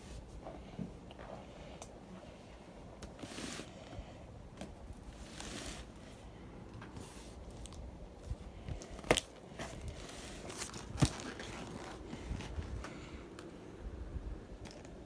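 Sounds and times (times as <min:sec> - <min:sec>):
faint rustling and handling: 0:00.0 - 0:13.6.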